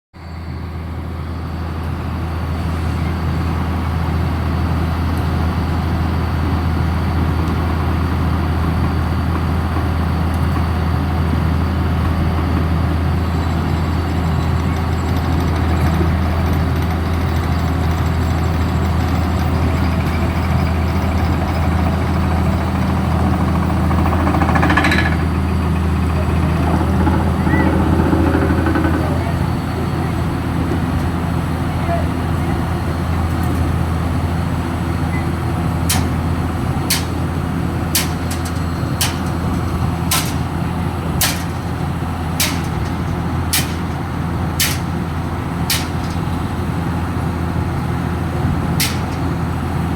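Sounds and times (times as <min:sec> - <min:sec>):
heavy engine droning: 0:00.2 - 0:49.9.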